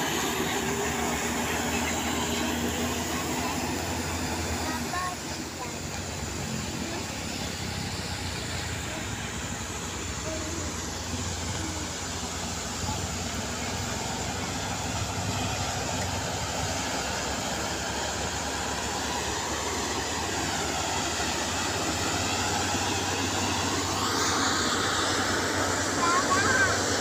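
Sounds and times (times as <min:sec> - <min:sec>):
heavy vehicle engine: 0:00.0 - 0:27.0.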